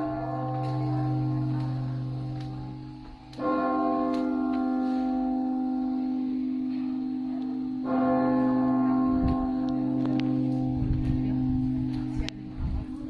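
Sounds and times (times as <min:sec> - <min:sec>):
church bell tolling: 0:00.0 - 0:13.0.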